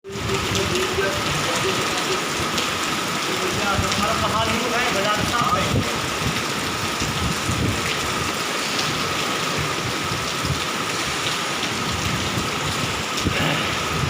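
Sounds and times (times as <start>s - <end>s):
floodwater rushing: 0.1s - 14.0s.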